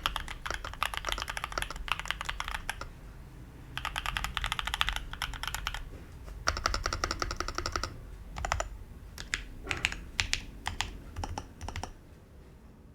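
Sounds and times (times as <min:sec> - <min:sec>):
mechanical keyboard typing: 0:00.0 - 0:03.0, 0:03.7 - 0:12.0.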